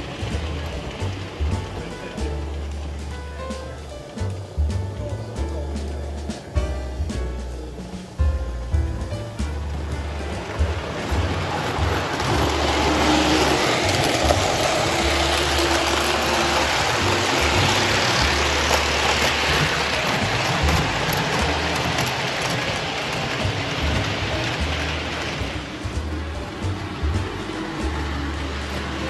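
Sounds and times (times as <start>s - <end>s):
model steam train running: 0.0s - 29.0s.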